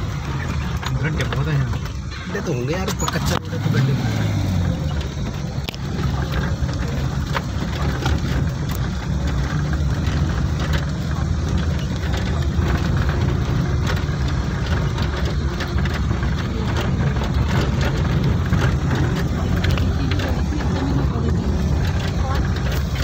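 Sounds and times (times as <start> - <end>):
small rattles and knocks: 0.0 - 23.0
vehicle engine and tyre hum: 0.0 - 23.0.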